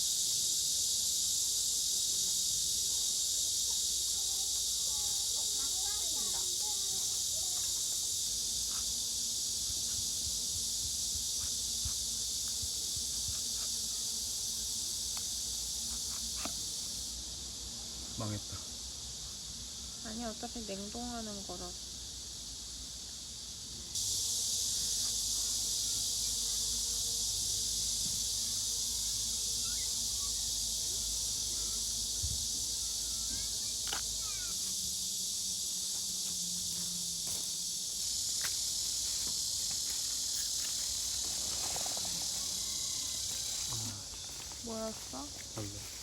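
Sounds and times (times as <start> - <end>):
crickets and insects chirping: 0.0 - 46.0.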